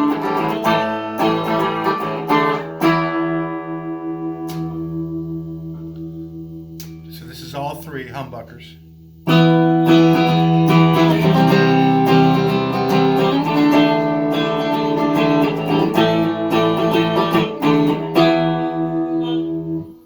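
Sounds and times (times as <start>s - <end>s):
electric guitar strumming chords: 0.0s - 20.0s.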